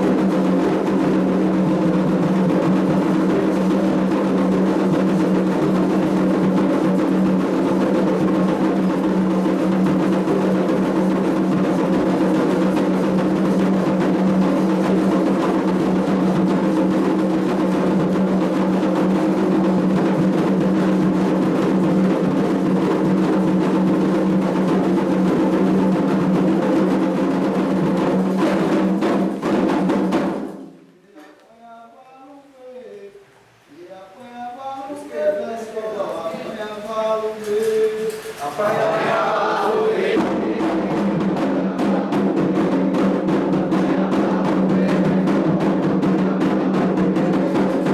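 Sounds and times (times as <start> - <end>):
hand drums playing rhythm: 0.0 - 30.8, 38.7 - 47.9.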